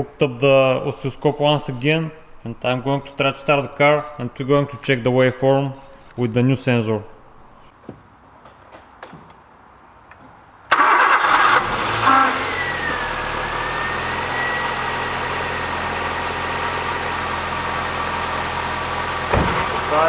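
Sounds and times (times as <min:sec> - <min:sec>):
car engine cranking and idling: 0:00.0 - 0:07.7, 0:10.7 - 0:20.0.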